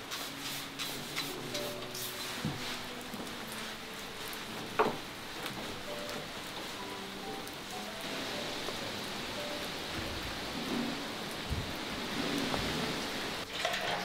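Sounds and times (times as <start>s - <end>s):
rain pattering on glass: 0.0s - 14.0s.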